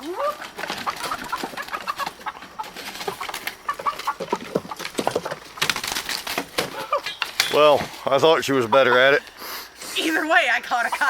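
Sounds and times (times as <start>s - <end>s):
rustling: 0.0s - 10.2s
chickens clucking and squawking: 0.0s - 11.0s.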